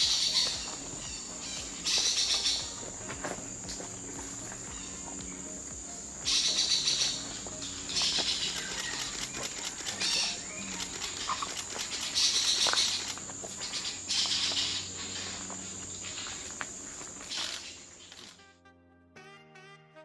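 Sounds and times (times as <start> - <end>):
high-pitched insect drone: 0.0 - 18.4.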